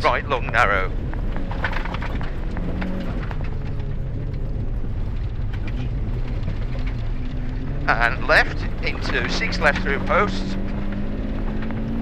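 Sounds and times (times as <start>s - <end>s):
gravel ticking against car: 0.0s - 12.0s
rally car engine from cabin: 0.0s - 12.0s.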